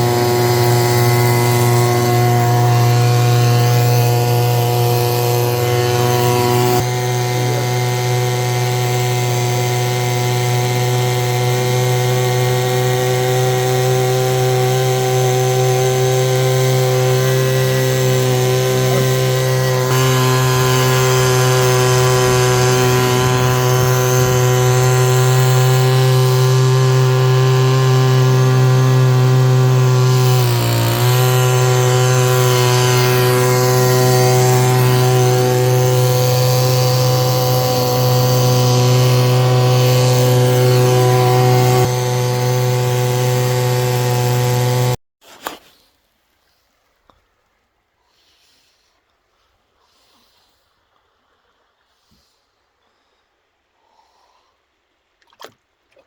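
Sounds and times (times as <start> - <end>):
machine drone: 0.0 - 45.0.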